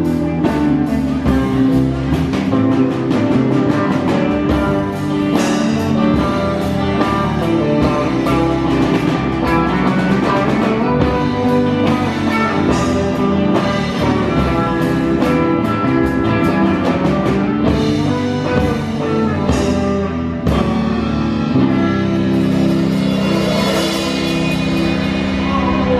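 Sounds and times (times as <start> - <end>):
drum kit: 0.0 - 25.9
electric guitars: 0.0 - 25.9.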